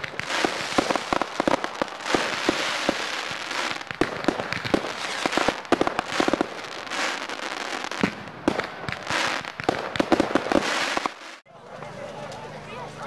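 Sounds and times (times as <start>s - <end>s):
fireworks crackling and popping: 0.0s - 11.5s.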